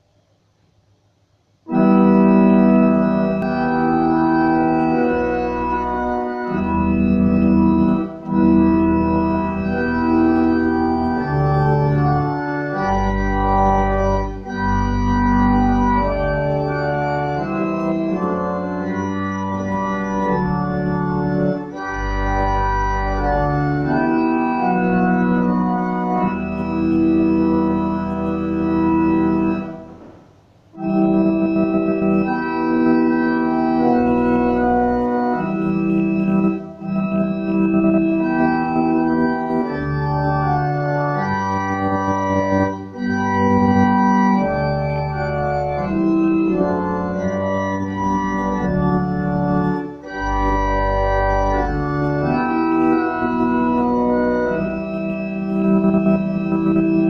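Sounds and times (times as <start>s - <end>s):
church organ playing a hymn: 1.6s - 57.0s.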